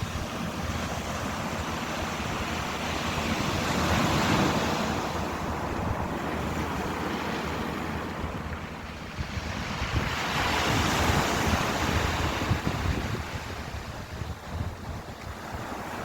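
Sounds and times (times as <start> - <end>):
ocean waves washing: 0.0 - 16.0
wind rumble on microphone: 0.0 - 16.0.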